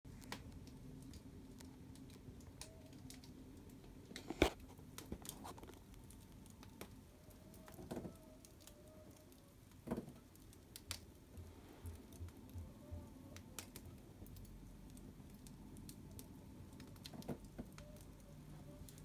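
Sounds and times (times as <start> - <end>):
fire crackling and popping: 0.1 - 19.0.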